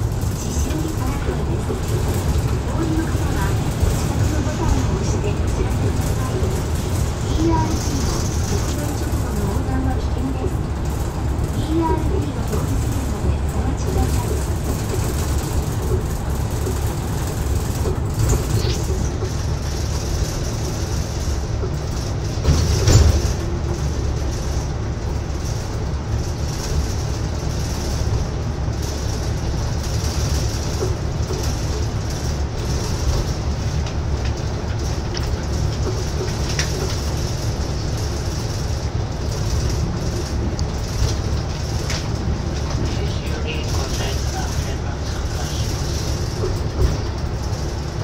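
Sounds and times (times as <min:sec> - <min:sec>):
bus engine and road rumble: 0:00.0 - 0:48.0.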